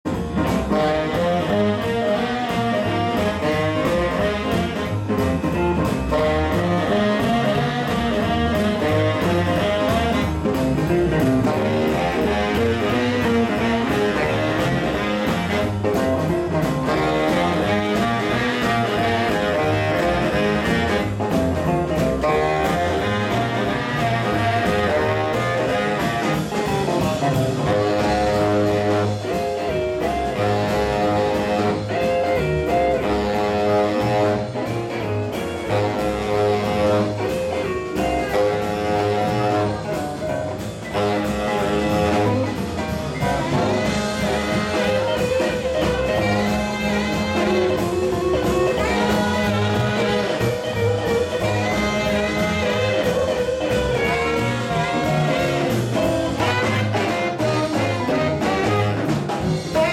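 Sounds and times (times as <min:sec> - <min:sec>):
jazz swing band playing: 0:00.0 - 0:59.9
saxophones playing lead: 0:00.1 - 0:59.9.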